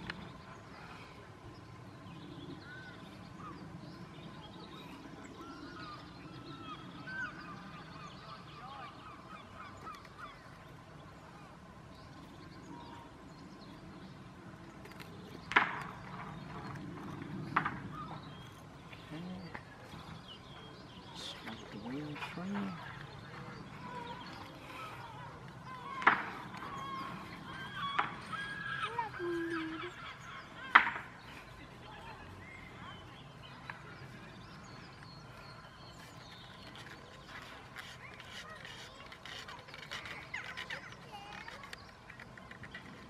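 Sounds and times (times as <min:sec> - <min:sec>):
birds calling: 0:00.0 - 0:43.0.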